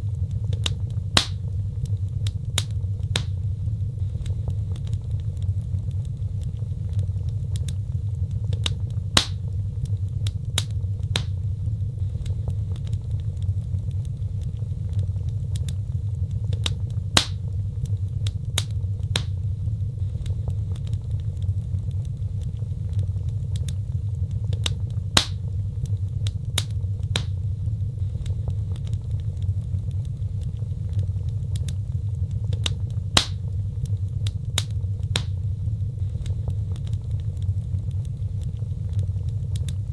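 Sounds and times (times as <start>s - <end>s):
fire popping: 0.0s - 39.9s
low rumble of flames: 0.0s - 39.9s
wood fire crackling: 0.0s - 39.9s.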